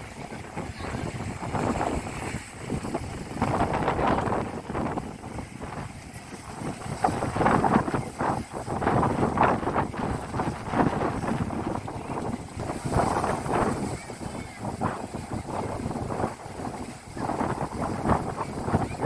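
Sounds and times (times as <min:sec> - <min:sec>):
sea waves washing on shore: 0:00.0 - 0:19.0
wind buffeting microphone: 0:00.0 - 0:19.0.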